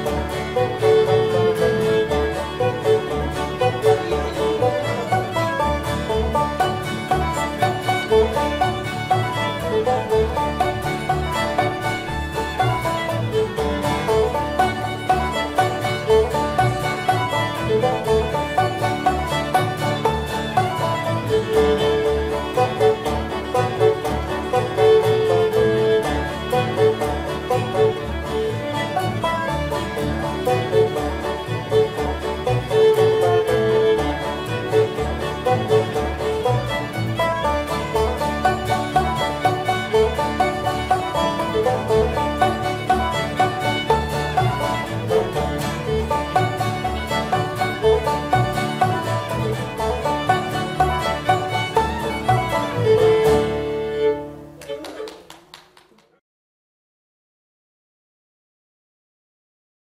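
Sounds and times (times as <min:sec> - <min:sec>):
acoustic guitar strumming: 0:00.0 - 0:54.6
upright bass: 0:00.0 - 0:54.6
banjo: 0:00.0 - 0:55.4
fiddle melody: 0:00.0 - 0:55.6
string band playing: 0:00.0 - 0:55.7.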